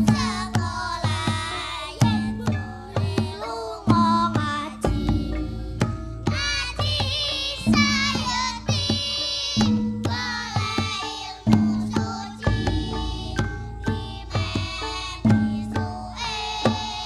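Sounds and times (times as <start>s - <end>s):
gamelan ensemble playing: 0.0s - 17.0s
person singing: 0.0s - 17.0s.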